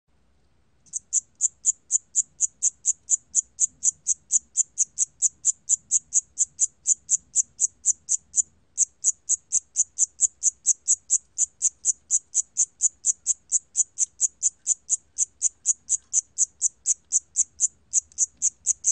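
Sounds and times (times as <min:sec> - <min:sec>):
cricket chirping: 0:00.8 - 0:18.9.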